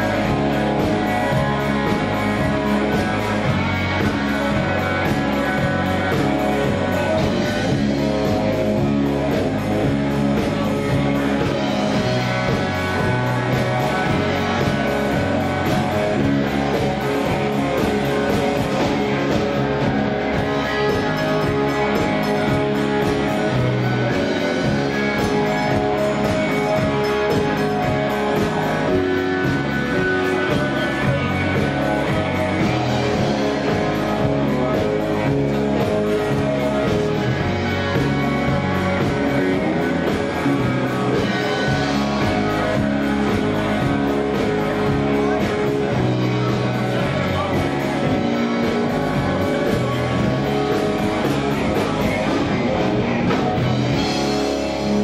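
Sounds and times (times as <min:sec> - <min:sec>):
drums: 0:00.0 - 0:55.0
electric guitar: 0:00.0 - 0:55.0
stepping bass line: 0:00.0 - 0:55.0.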